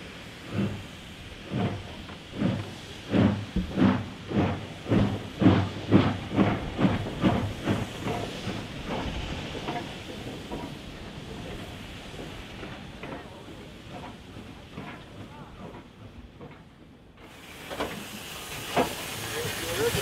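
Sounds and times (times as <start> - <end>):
steam hiss: 0.0 - 16.6, 17.2 - 20.0
steam locomotive exhaust chuffs: 0.0 - 20.0.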